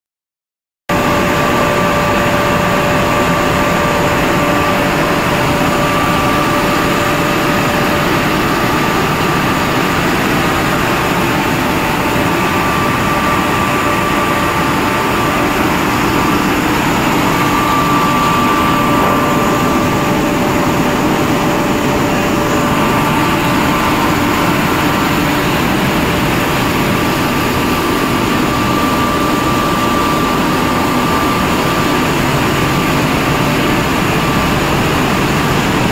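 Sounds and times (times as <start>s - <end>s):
thin high whine: 0.9s - 35.8s
loud machinery drone: 0.9s - 35.9s.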